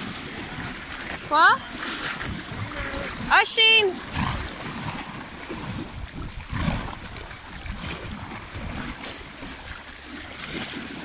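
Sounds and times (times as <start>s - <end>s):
horses splashing through water: 0.0s - 11.0s
wind rumble on microphone: 0.0s - 11.0s.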